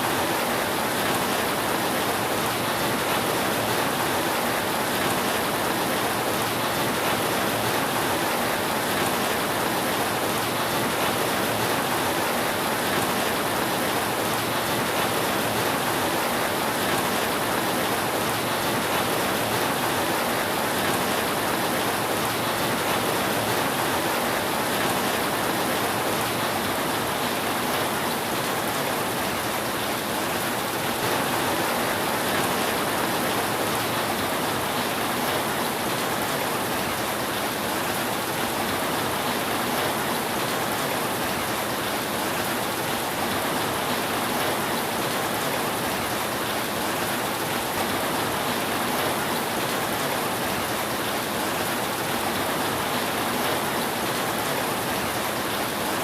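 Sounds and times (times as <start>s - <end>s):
rain falling on roof: 0.0s - 56.0s.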